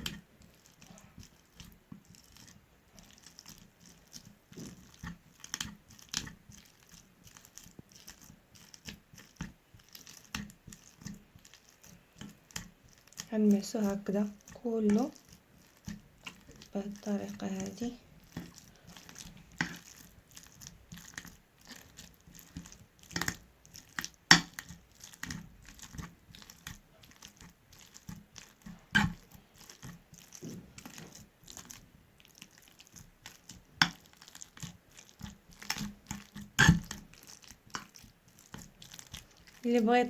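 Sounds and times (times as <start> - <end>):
figs squishing: 0.0 - 40.0.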